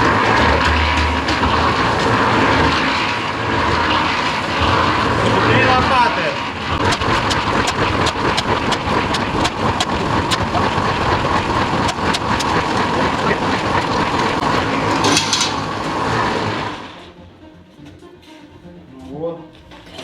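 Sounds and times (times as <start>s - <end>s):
mixer motor hum: 0.0s - 17.4s.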